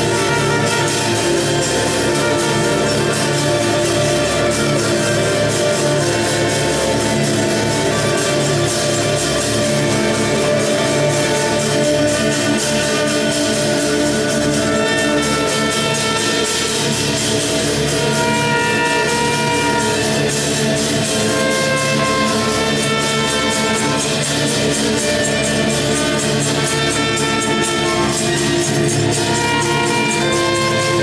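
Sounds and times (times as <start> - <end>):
trumpet held notes: 0.0 - 31.0
violins held notes: 0.0 - 31.0.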